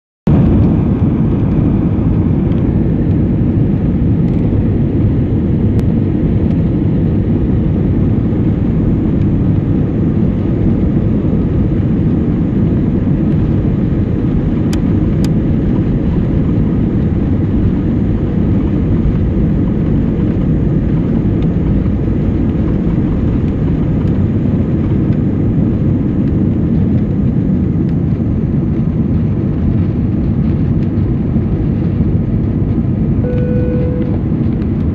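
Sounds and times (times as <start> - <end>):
airplane cabin rumble: 0.3 - 34.9.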